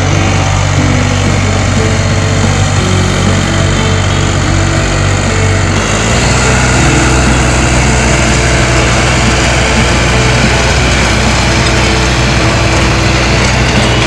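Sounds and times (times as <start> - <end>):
rotary tiller churning soil: 0.0 - 14.0
tractor diesel engine running: 0.0 - 14.0.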